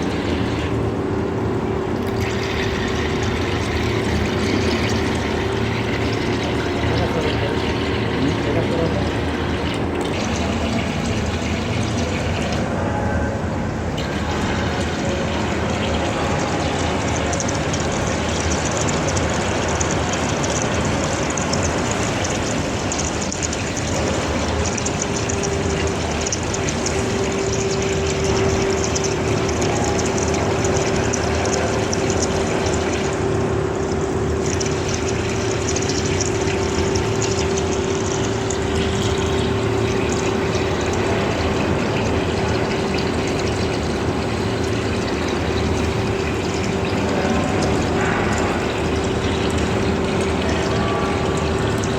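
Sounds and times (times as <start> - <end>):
machine running noise: 0.0 - 51.9.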